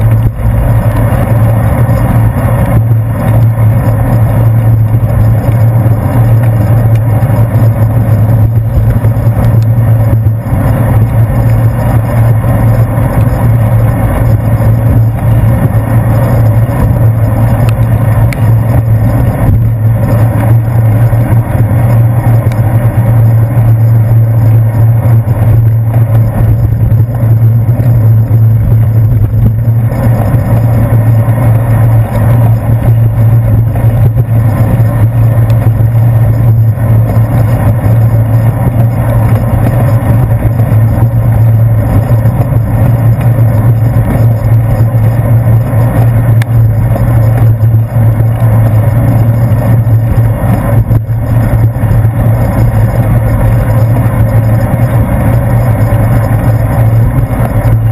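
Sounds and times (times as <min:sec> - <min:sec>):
bicycle rolling over wet pavement: 0:00.0 - 0:57.9
low wind rumble: 0:00.0 - 0:57.9.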